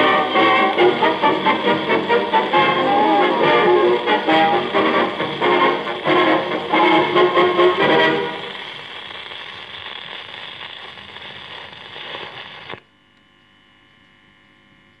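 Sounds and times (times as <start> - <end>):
faint mains hum: 0.0 - 15.0
record surface hiss and crackle: 0.0 - 15.0.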